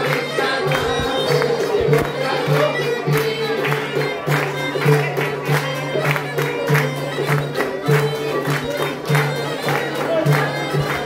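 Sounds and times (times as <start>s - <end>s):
bagpipe playing a folk tune: 0.0s - 11.0s
lute strumming a steady beat: 0.0s - 11.0s.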